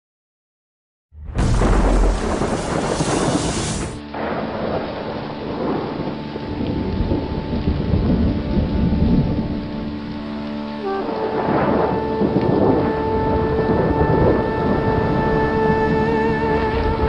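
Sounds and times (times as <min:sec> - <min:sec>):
rumbling thunder: 0:01.2 - 0:09.8, 0:11.0 - 0:16.0
rain: 0:01.3 - 0:17.0.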